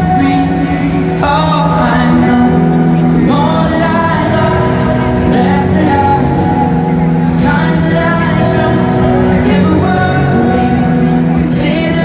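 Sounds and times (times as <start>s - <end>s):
acoustic guitar: 0.0s - 12.0s
man singing: 0.0s - 12.0s.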